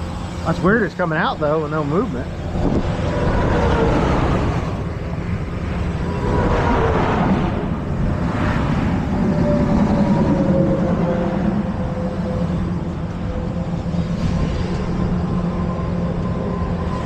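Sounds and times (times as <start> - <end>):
engine rumble: 0.0 - 17.0
road traffic passing: 0.0 - 17.0.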